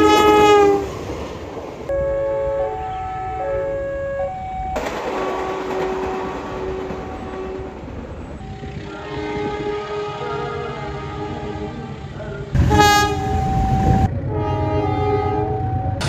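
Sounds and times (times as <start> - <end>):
locomotive horn chords: 0.0 - 1.0, 1.9 - 16.0
low train rumble: 0.0 - 16.0.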